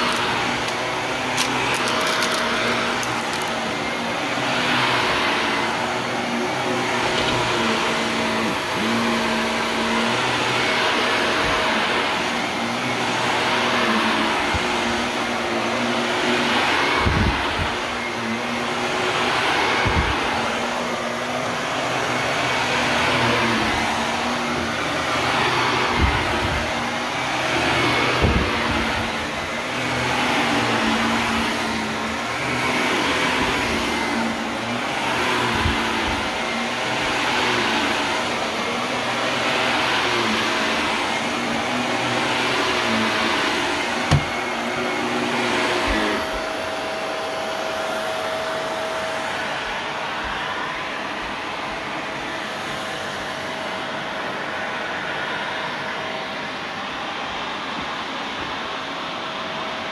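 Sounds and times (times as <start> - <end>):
upright vacuum running on rug: 0.0 - 59.9.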